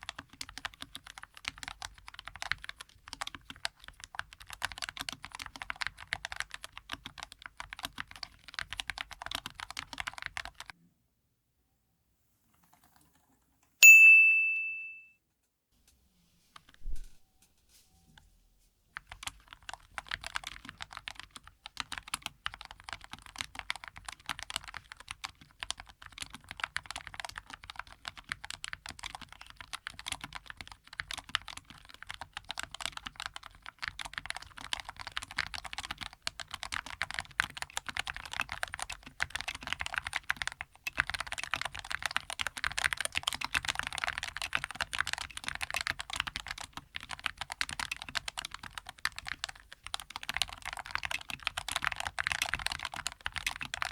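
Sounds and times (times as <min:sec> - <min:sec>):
fast keyboard typing: 0:00.0 - 0:10.7, 0:19.0 - 0:53.9.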